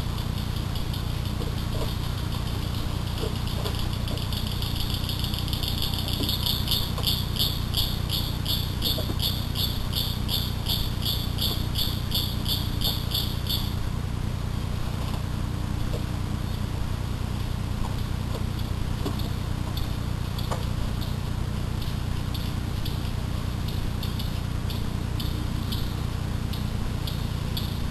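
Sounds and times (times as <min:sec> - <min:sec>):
high rhythmic insect chirping: 0:00.0 - 0:13.9, 0:17.4 - 0:27.9
steady low hum: 0:00.0 - 0:27.9.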